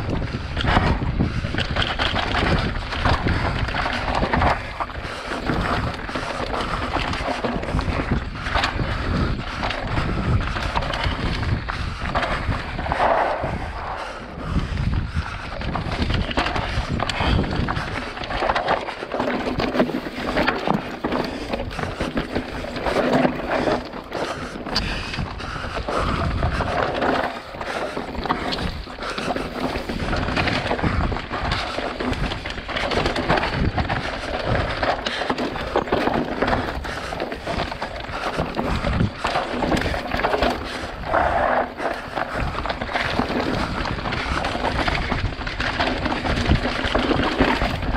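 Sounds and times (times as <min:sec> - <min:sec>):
bike rattling: 0:00.0 - 0:47.9
knobby tyres crunching over stones: 0:00.0 - 0:47.9
wind: 0:00.0 - 0:47.9.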